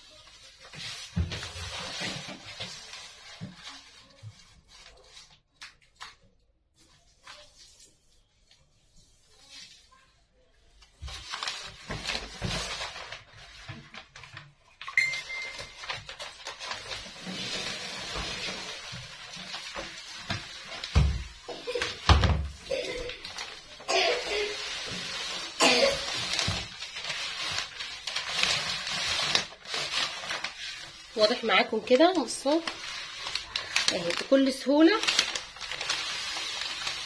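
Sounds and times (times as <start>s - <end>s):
contact paper rustling and crackling: 0.0s - 37.0s.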